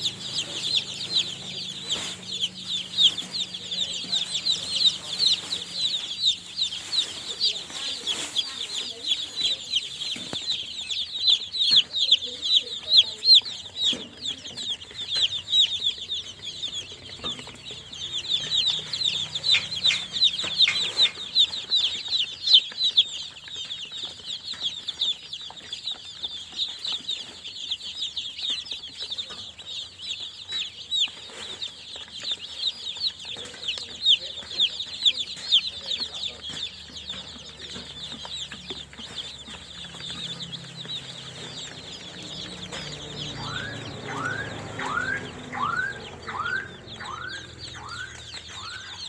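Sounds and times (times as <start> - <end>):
chicks peeping: 0.0 - 49.0.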